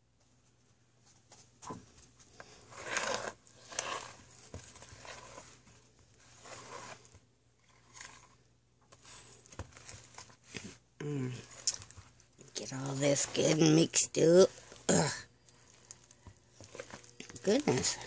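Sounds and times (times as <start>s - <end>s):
fork scraping batter in bowl: 2.3s - 18.0s.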